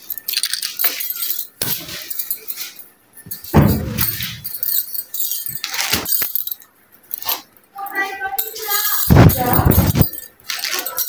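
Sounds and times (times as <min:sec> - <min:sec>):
small trinkets jingling and clinking: 0:00.0 - 0:11.0.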